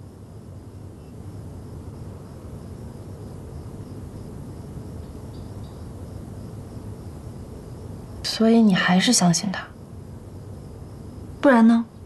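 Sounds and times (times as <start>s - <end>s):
crickets chirping: 0.0s - 12.0s
low steady background hum: 0.0s - 12.0s.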